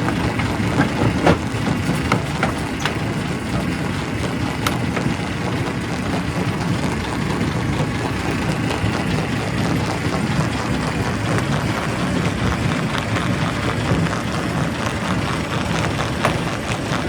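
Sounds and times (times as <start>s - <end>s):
rock crusher rumbling: 0.0s - 17.0s.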